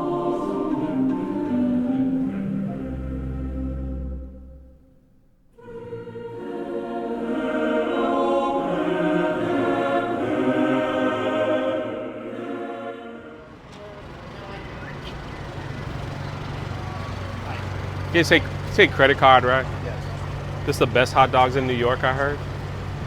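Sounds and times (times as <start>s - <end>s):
choral singing: 0.0s - 4.8s, 5.5s - 23.0s.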